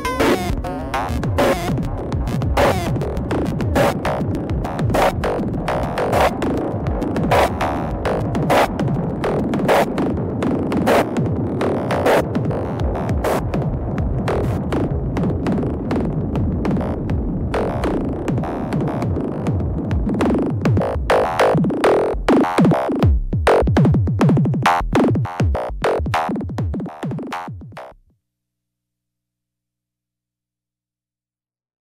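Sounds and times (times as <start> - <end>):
rapid plucked synth notes: 0.0 - 28.0
synthesizer electronic music: 0.0 - 28.0.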